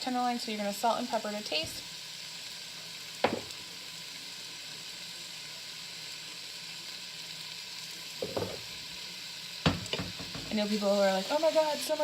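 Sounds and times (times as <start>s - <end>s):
meat sizzling: 0.0s - 12.0s.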